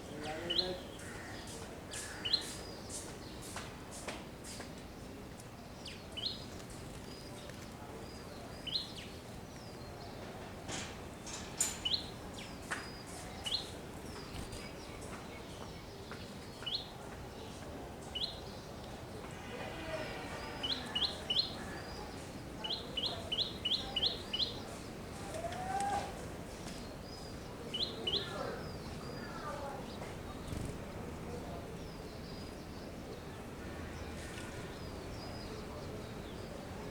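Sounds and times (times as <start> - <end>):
sparrows chirping: 0.0 - 4.6, 5.7 - 10.2, 11.1 - 18.9, 20.4 - 25.0, 26.6 - 36.9.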